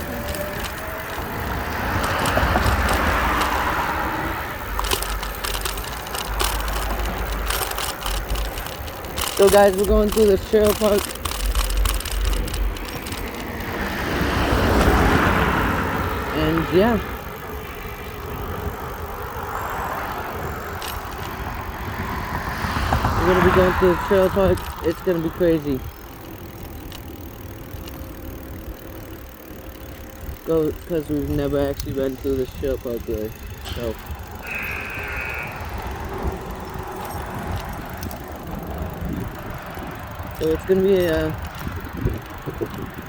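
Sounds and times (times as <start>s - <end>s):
clicks and crackles: 0.0s - 16.3s, 17.1s - 22.8s, 23.7s - 30.4s, 35.8s - 43.0s
bicycle rolling: 0.0s - 43.0s.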